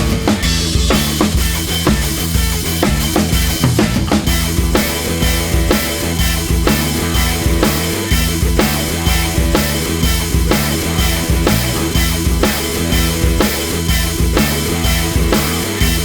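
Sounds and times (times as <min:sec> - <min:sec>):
rock music with distorted guitar: 0:00.0 - 0:16.0.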